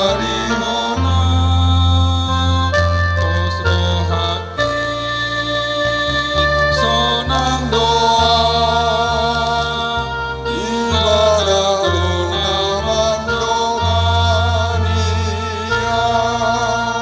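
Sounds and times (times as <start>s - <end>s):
hymn sung slowly: 0.0s - 17.0s
instrumental accompaniment: 0.0s - 17.0s.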